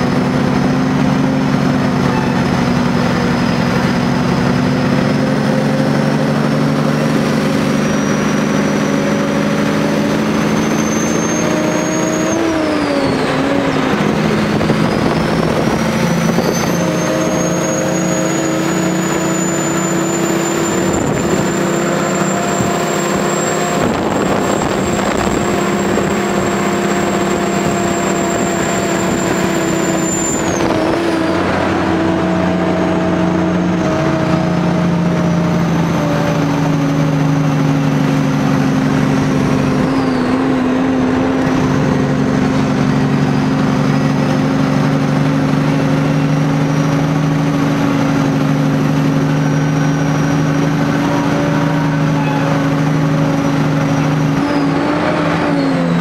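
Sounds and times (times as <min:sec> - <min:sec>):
high turbo whine: 0:00.0 - 0:56.0
truck diesel engine running: 0:00.0 - 0:56.0.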